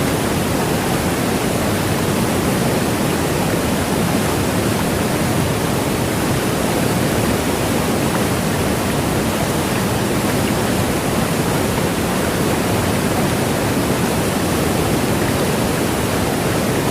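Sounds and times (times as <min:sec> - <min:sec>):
heavy rain downpour: 0:00.0 - 0:16.9.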